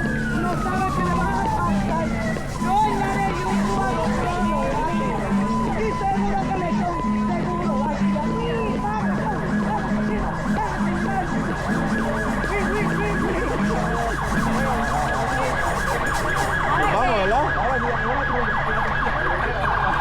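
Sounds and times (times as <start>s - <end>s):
steady high tone: 0.0s - 17.6s
sirens wailing and yelping: 0.0s - 20.0s.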